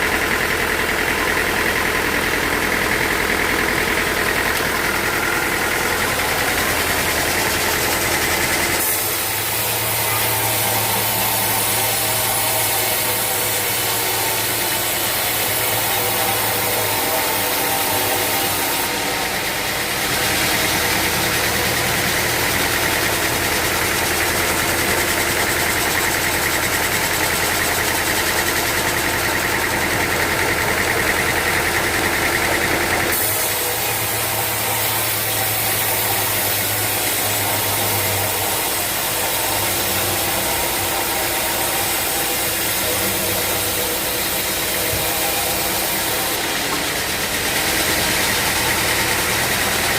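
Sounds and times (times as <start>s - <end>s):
sawmill machinery droning: 0.0s - 49.9s.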